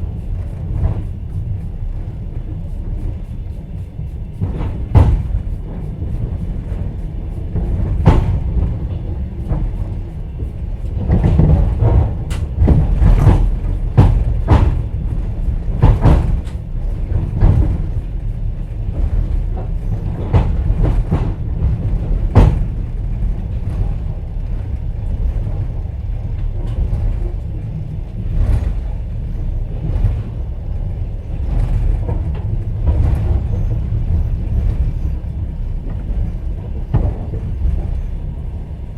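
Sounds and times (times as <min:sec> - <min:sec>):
low rumble of train running: 0:00.0 - 0:38.9
wheels clacking over rail joints: 0:03.7 - 0:38.9.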